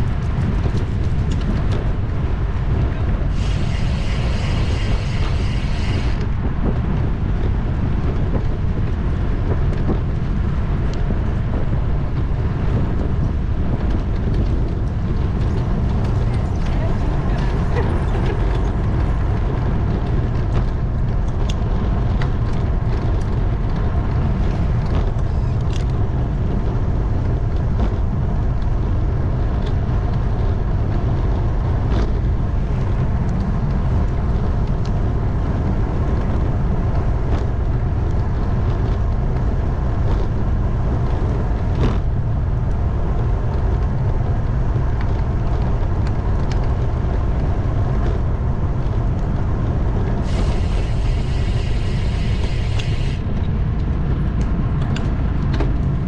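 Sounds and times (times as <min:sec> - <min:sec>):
road noise: 0:00.0 - 0:56.0
wind on microphone: 0:00.0 - 0:56.0.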